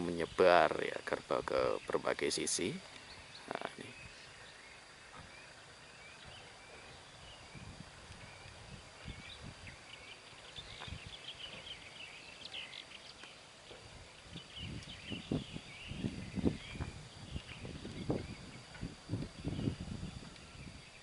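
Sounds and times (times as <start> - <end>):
small birds chirping: 0.0 - 21.0
steady hiss: 0.0 - 21.0.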